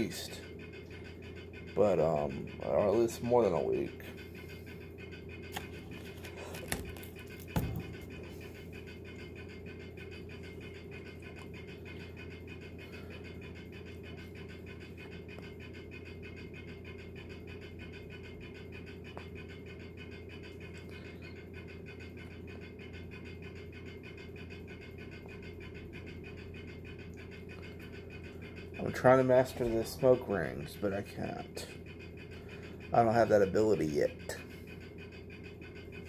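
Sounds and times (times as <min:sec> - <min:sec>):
steady low hum with hiss: 0:00.0 - 0:36.0.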